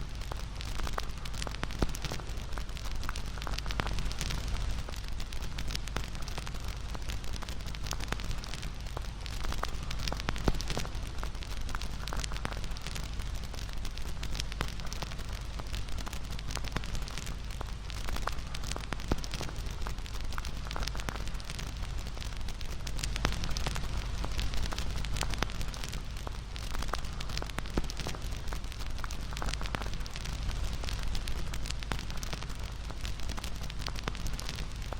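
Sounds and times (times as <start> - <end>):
bonfire crackling and popping: 0.0 - 34.9.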